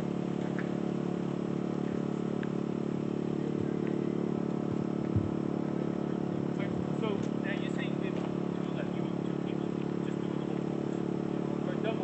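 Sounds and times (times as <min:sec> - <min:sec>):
steady engine hum: 0:00.0 - 0:12.0.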